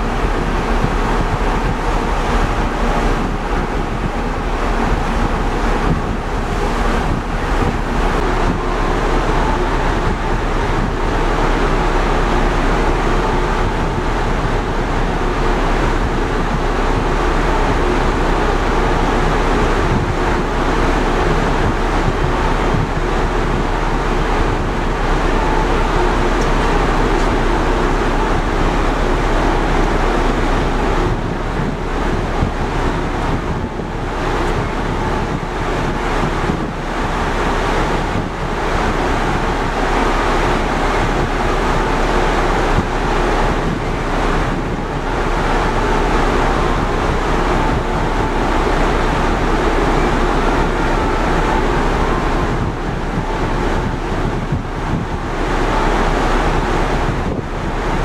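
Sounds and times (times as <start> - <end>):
ship machinery hum: 0.0 - 58.0
wind on microphone: 0.0 - 58.0.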